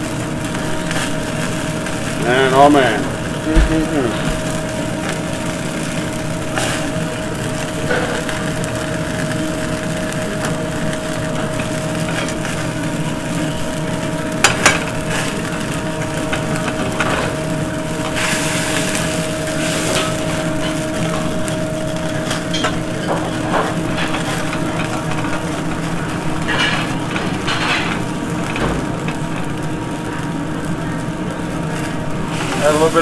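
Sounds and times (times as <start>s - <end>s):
chicken sizzling in a pan: 0.0s - 33.0s
gas burners running: 0.0s - 33.0s
steady hum: 0.0s - 33.0s.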